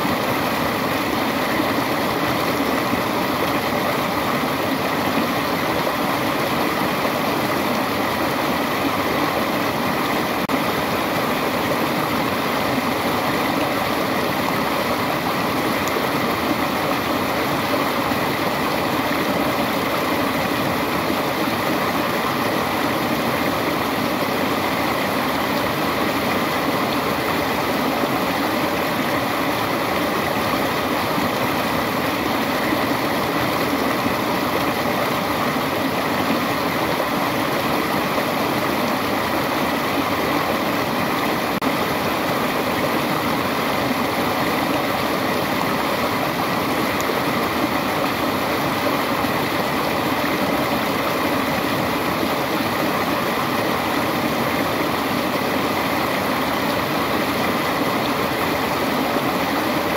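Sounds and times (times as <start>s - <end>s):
waterfall splashing over rocks: 0.0s - 59.9s.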